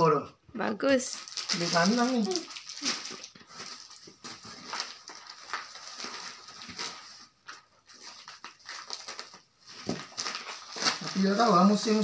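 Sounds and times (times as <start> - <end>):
plastic wrapping rustling: 0.9 - 12.0.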